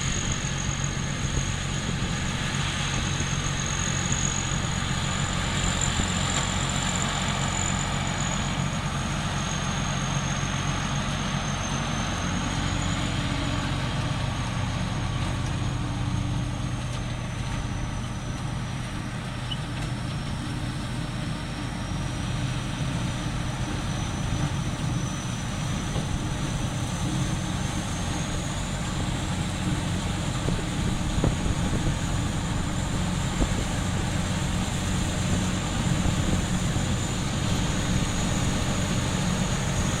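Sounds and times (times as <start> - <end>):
combine harvester engine drone: 0.0 - 40.0
high machinery whine: 0.0 - 40.0.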